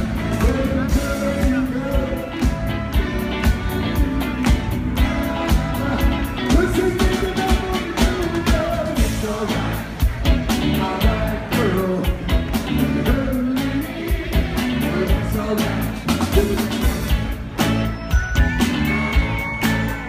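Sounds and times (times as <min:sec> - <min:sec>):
lead singer singing: 0:00.0 - 0:17.0
live rock band with horns: 0:00.0 - 0:20.0
steady drum beat: 0:00.0 - 0:20.0.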